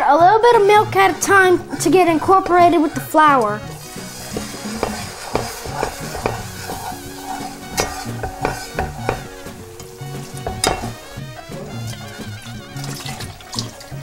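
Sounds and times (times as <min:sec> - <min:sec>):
roux sizzling: 0:00.0 - 0:14.0
whisk scraping metal pot: 0:00.4 - 0:13.3.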